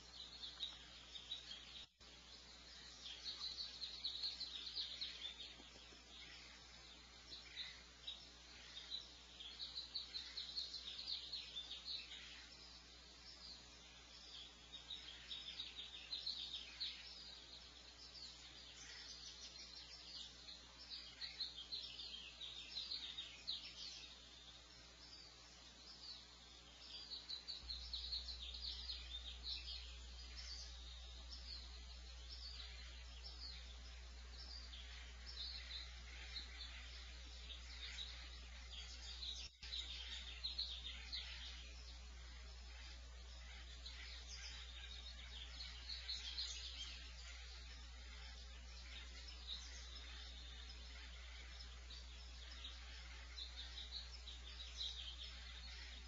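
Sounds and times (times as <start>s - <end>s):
low electrical hum: 0.0s - 56.0s
songbirds chirping and singing: 0.0s - 56.0s.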